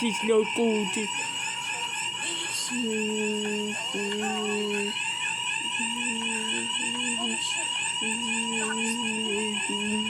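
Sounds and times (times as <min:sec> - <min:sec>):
fire alarm shrill pulsing tone: 0:00.0 - 0:10.0.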